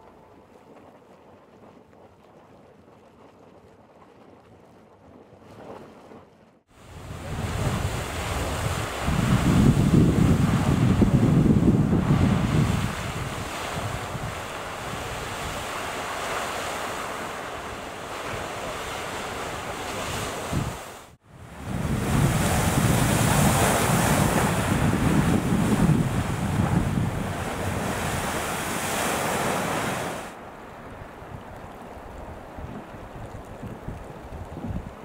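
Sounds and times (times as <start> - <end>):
wind on microphone: 6.8 - 35.0.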